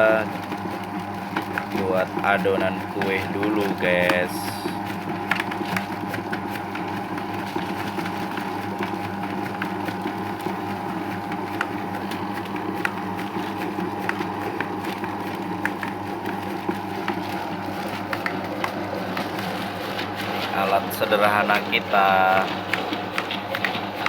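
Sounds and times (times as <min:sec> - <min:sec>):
mixing machine motor hum: 0:00.0 - 0:24.0.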